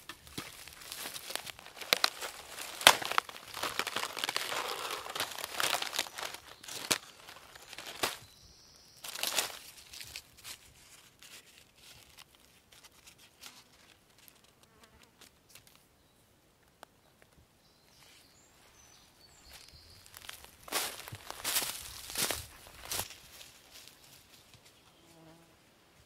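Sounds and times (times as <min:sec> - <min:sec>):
footsteps through undergrowth: 0:00.0 - 0:14.4, 0:18.0 - 0:24.9.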